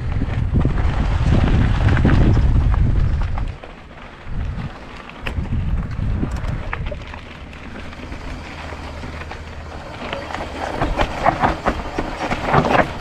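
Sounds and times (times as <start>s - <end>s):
bike rattling: 0.0s - 13.0s
tyres crunching over stones: 0.0s - 13.0s
wind rumbling on microphone: 0.0s - 13.0s.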